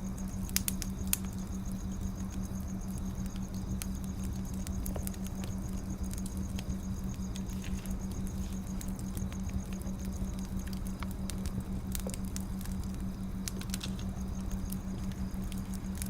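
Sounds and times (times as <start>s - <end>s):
steady low hum: 0.0s - 16.0s
firewood crackling and popping: 0.1s - 16.0s.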